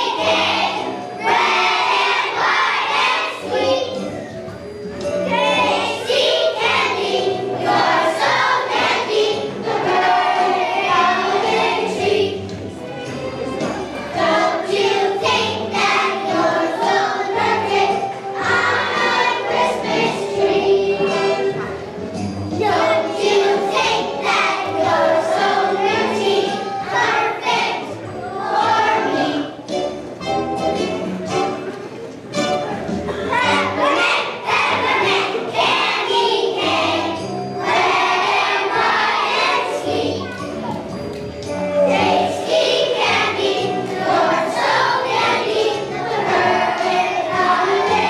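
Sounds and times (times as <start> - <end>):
children's choir singing: 0.0 - 48.0
musical accompaniment: 0.0 - 48.0.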